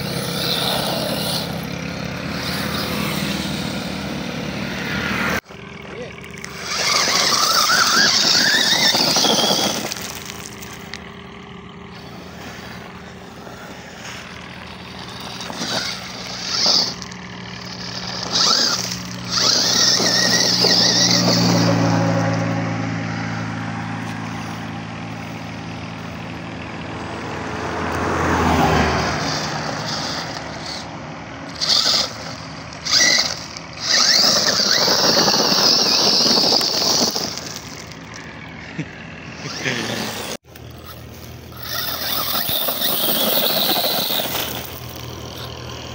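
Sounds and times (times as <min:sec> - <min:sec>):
tyres spraying gravel: 0:00.0 - 0:22.6, 0:28.2 - 0:45.9
low engine drone: 0:00.0 - 0:45.9
rc truck electric whine: 0:00.0 - 0:45.9.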